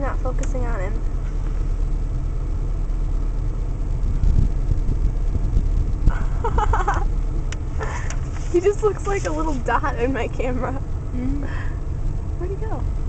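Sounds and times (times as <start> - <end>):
air conditioner blowing: 0.0 - 13.0
car engine rumble: 0.0 - 13.0.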